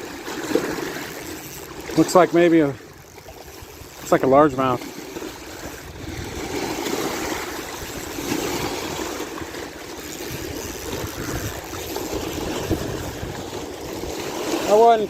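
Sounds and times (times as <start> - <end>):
waves washing against a dam: 0.0 - 15.0.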